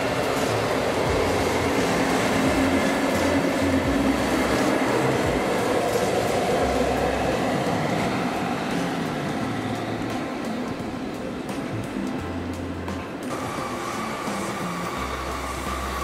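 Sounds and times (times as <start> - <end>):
locomotive running gear hum: 0.0 - 16.0
wheels rumbling on rail: 0.0 - 16.0.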